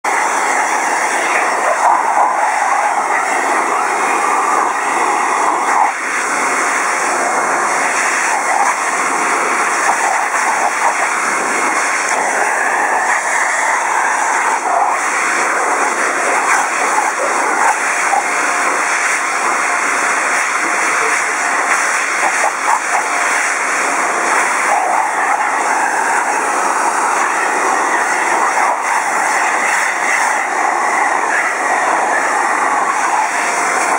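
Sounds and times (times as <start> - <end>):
hair dryer blowing: 0.0 - 33.9.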